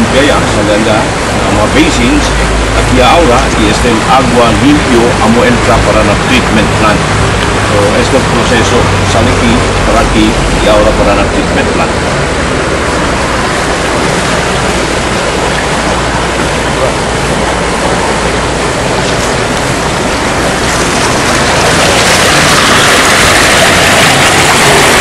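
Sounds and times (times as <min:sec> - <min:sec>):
water rushing through concrete channel: 0:00.0 - 0:25.0.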